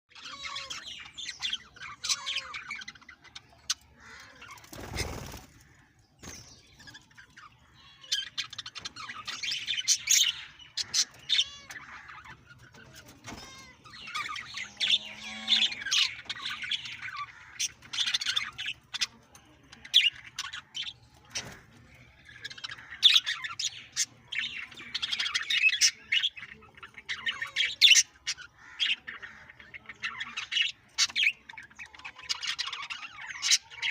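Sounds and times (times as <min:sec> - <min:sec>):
parrots chattering and squawking: 0:00.1 - 0:33.9.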